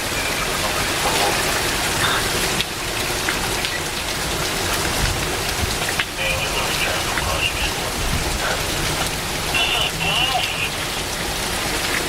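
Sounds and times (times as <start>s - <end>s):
heavy rain falling: 0.0s - 12.0s
raindrops ticking on hard surfaces: 0.0s - 12.0s.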